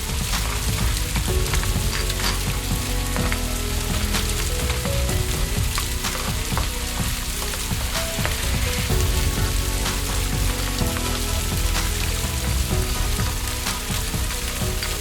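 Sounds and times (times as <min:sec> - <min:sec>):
water splashing over rocks: 0:00.0 - 0:15.0.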